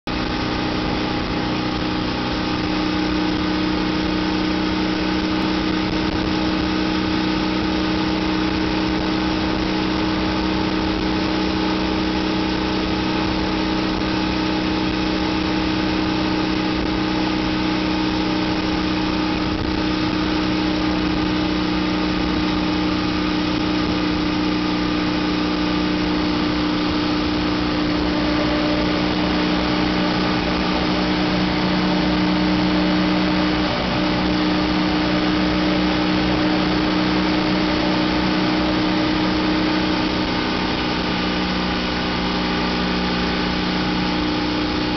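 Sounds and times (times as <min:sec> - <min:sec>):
motorcycle engine droning: 0:00.0 - 0:44.9.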